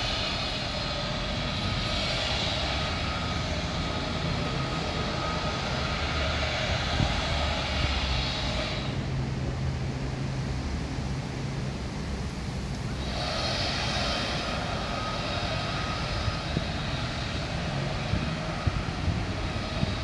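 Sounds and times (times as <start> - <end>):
diesel locomotives droning: 0.0 - 20.0.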